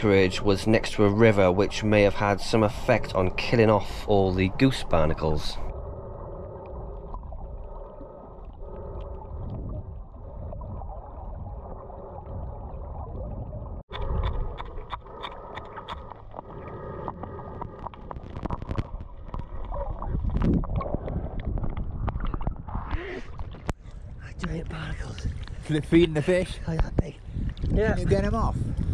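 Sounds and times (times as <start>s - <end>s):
underwater sloshing and bubbling: 0.0s - 28.9s.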